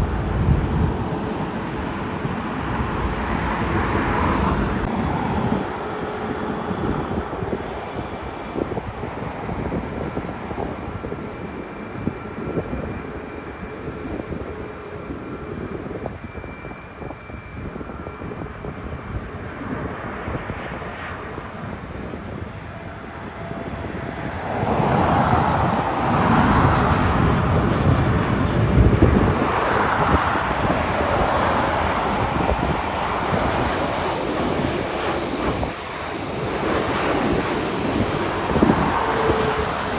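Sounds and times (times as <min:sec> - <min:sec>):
jet airliner engine rumble: 0:00.0 - 0:39.9
jet passing close by: 0:00.0 - 0:39.9.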